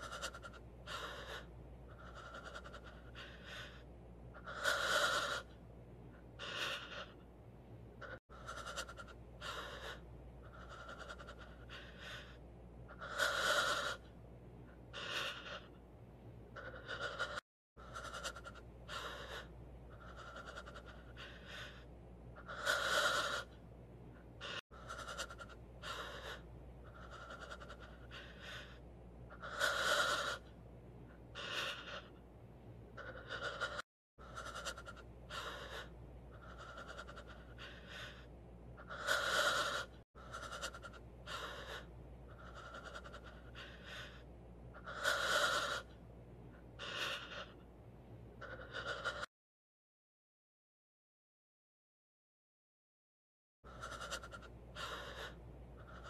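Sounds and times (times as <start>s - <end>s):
person panting heavily: 0.0s - 5.6s, 6.2s - 7.2s, 8.0s - 14.1s, 14.7s - 15.8s, 16.6s - 23.6s, 24.2s - 30.5s, 31.1s - 32.2s, 33.0s - 45.9s, 46.7s - 47.6s, 48.4s - 49.3s, 53.7s - 56.0s.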